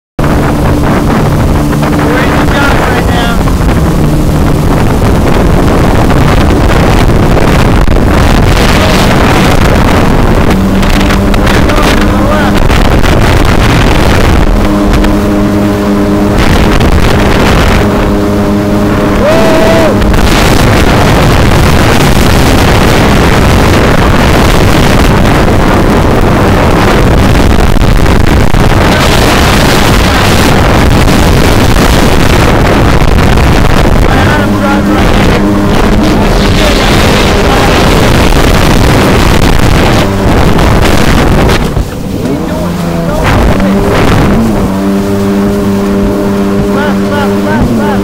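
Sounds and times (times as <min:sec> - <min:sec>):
wind rush on microphone: 0:00.0 - 0:48.0
jet ski engine hum: 0:00.2 - 0:48.0.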